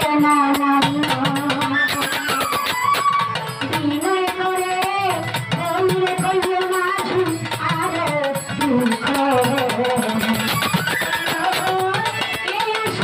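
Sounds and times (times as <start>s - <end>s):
hand drum rhythm: 0.0s - 13.0s
violin folk melody: 0.0s - 13.0s.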